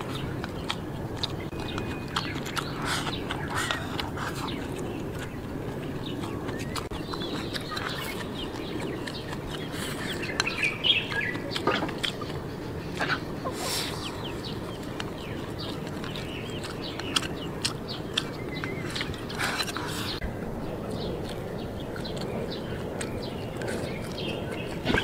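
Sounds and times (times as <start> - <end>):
birds chirping: 0.0 - 25.0
chewing rice: 0.0 - 25.0.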